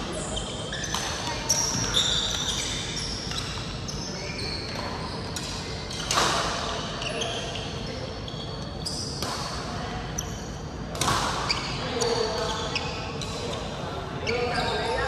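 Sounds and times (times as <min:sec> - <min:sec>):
shoe squeaks on court floor: 0:00.0 - 0:09.2, 0:11.3 - 0:15.0.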